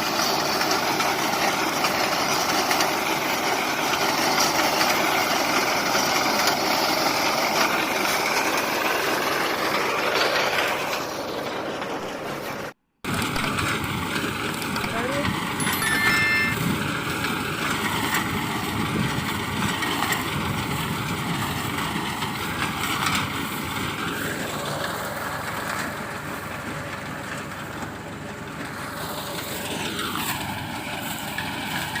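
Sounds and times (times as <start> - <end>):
tractor and harvesting machinery: 0.0 - 32.0.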